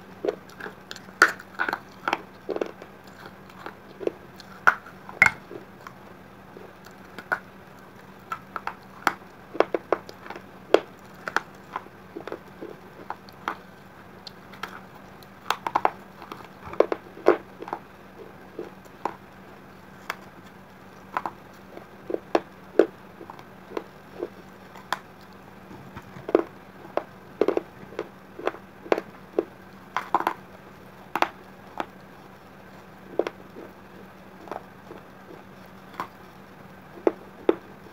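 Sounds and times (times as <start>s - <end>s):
chewing crunchy clay pieces: 0.0s - 37.9s.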